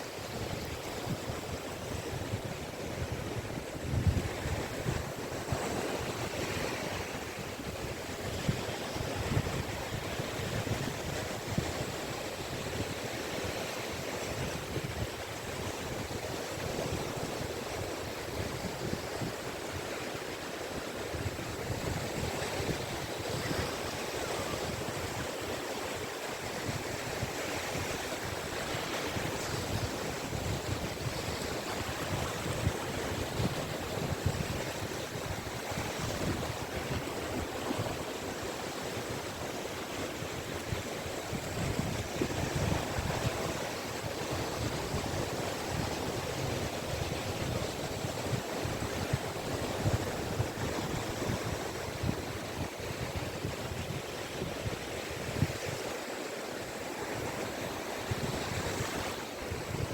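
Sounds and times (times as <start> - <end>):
waves breaking on beach: 0.0 - 59.9
wind on microphone: 0.0 - 59.9.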